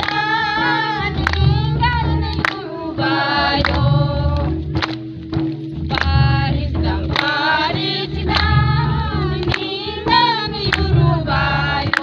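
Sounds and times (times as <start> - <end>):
group singing together: 0.0 - 4.9, 5.9 - 12.0
hand claps in time: 0.0 - 12.0.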